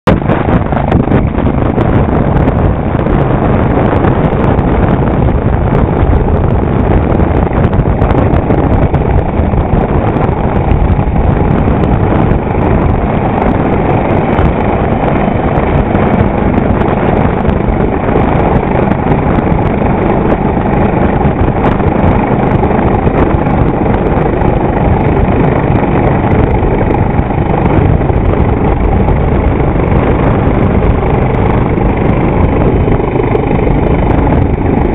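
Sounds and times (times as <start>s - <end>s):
helicopter hovering overhead: 0.0s - 34.9s
rush of boat wake: 0.1s - 34.9s.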